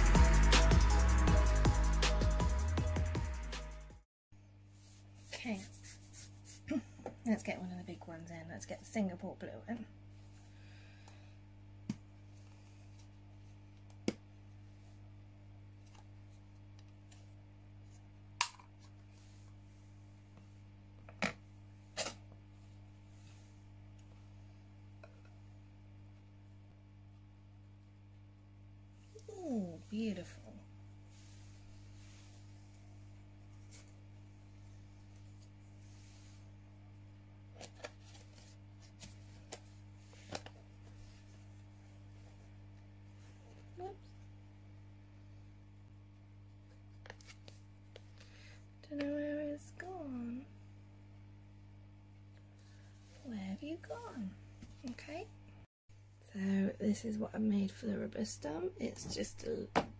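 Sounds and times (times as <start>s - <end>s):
steady low hum: 4.4s - 59.9s.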